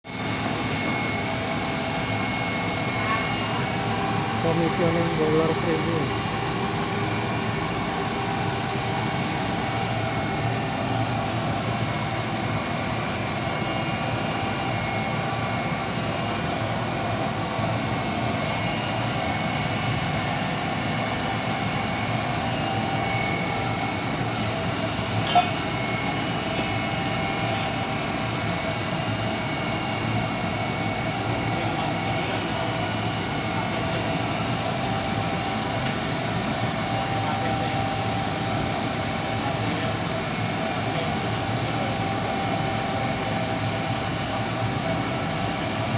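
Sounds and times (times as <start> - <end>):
constant machine tones: 0.1 - 45.9
steam boiler drone: 0.1 - 45.9.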